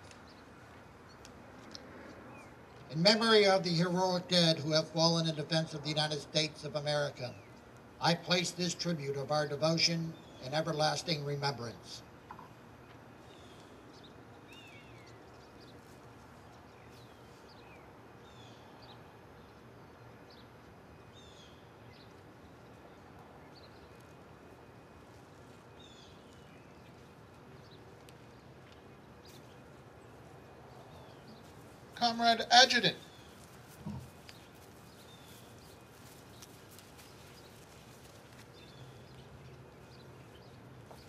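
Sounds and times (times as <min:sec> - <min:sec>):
small birds chirping: 0:00.0 - 0:03.6, 0:06.8 - 0:41.0.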